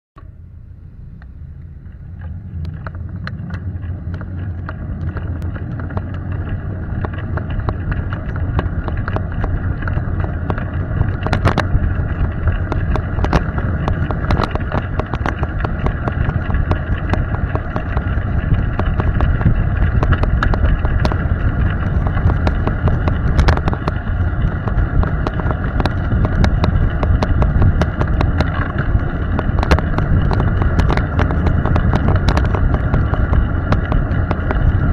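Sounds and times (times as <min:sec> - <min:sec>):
road rumble: 0:00.2 - 0:34.9
sharp clicks and knocks: 0:01.2 - 0:34.9
wind rushing over microphone: 0:01.6 - 0:34.9.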